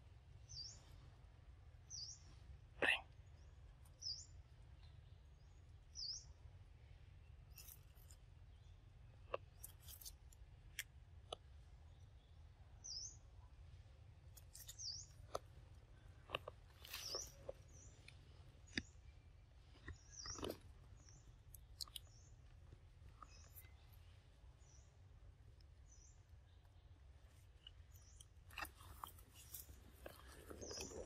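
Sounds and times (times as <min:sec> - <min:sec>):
quiet forest background: 0:00.0 - 0:31.0
bird chirping: 0:00.4 - 0:01.0, 0:01.8 - 0:10.1, 0:11.4 - 0:31.0.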